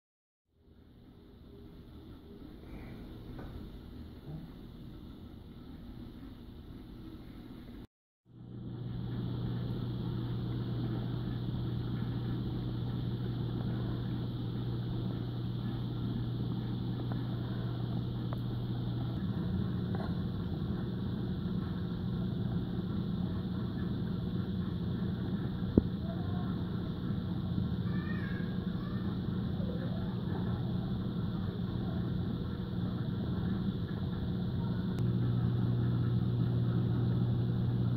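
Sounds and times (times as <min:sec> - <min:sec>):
aquarium pumps humming: 0:00.6 - 0:37.9.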